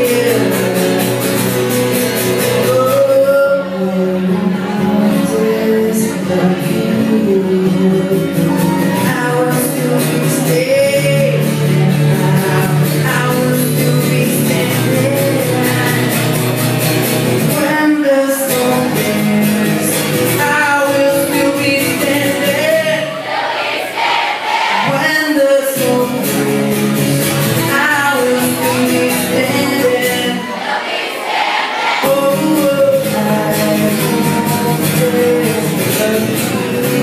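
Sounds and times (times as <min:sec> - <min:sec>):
man singing into a microphone: 0:00.0 - 0:23.2, 0:24.8 - 0:30.6, 0:32.0 - 0:37.0
strummed acoustic guitar: 0:00.0 - 0:37.0.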